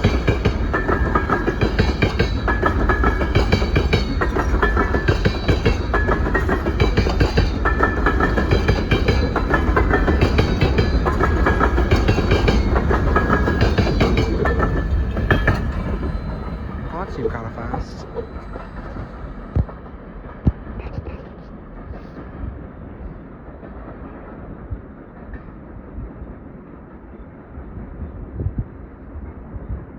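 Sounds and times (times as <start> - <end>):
train wheels clattering over rail joints: 0.0 - 26.8.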